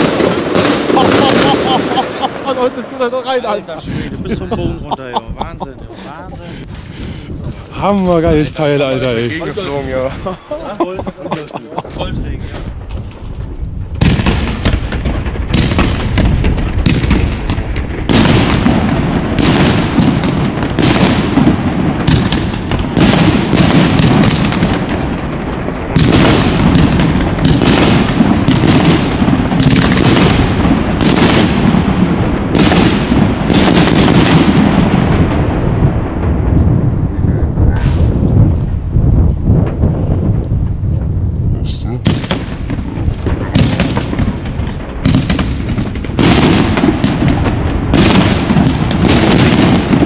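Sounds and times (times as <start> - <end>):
firework bangs: 0.0 - 50.0.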